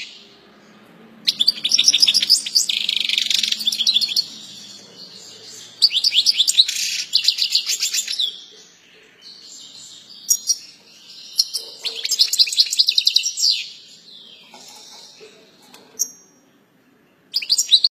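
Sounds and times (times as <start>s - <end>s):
bird chattering: 1.3s - 16.4s
finch trilling song: 1.3s - 16.5s, 17.3s - 17.9s.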